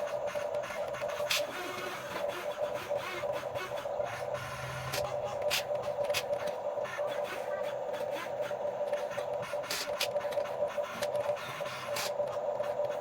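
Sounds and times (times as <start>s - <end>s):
electric motors and gearboxes whirring: 0.0s - 13.0s.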